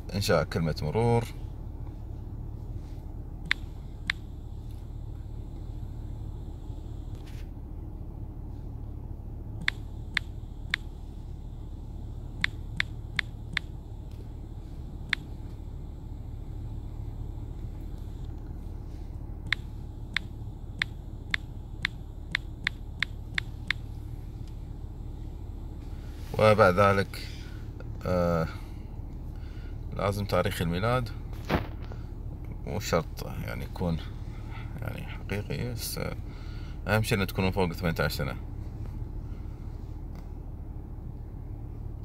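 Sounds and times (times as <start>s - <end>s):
low background rumble: 0.0s - 42.0s.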